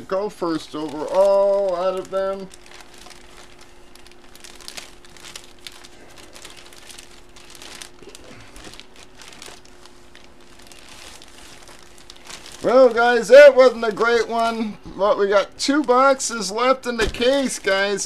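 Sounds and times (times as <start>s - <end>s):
plastic bag crinkling: 0.0s - 14.6s, 15.3s - 18.0s.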